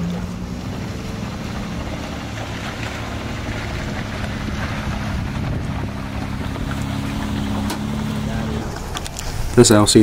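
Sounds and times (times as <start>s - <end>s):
stones clicking under tyres: 0.0s - 9.6s
engine running at low revs: 0.0s - 10.0s.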